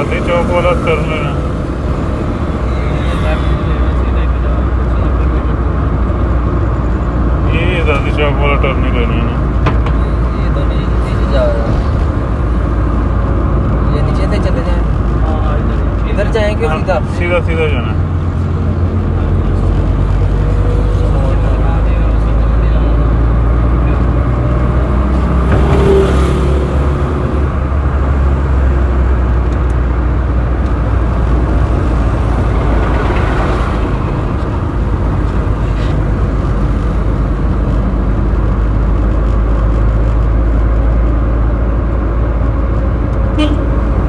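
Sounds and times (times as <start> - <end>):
engine and road rumble: 0.0 - 44.0
vehicles passing: 0.0 - 44.0.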